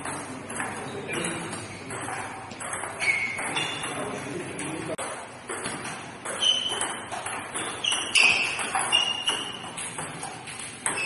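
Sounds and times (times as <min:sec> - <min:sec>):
table tennis ball hits: 0:00.0 - 0:11.0.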